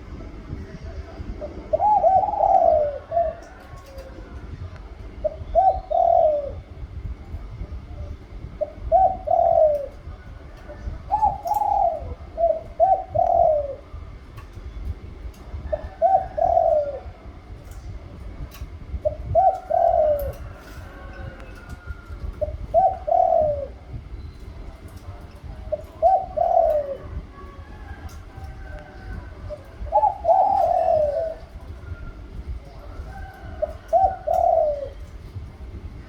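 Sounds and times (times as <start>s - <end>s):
dove cooing: 0.0s - 36.0s.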